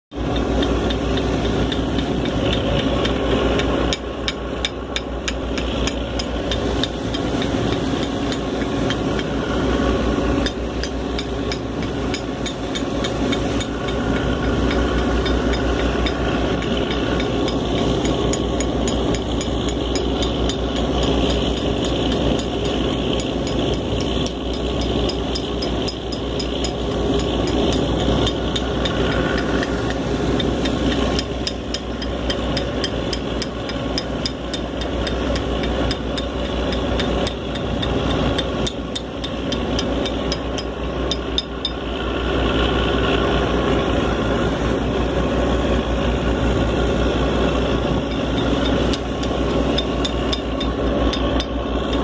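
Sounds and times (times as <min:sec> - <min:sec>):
boat engine knocking and rattling: 0:00.1 - 0:52.0.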